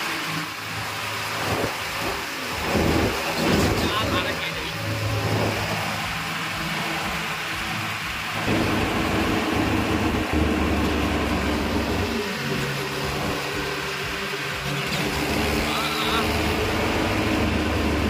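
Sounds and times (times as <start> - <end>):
rushing noise: 0.0 - 18.0
tractor diesel engine running: 0.0 - 18.0.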